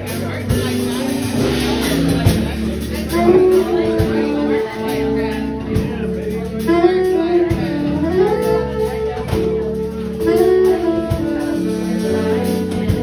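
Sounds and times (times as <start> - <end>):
jazz band playing: 0.0 - 13.0
saxophone melody: 0.0 - 13.0.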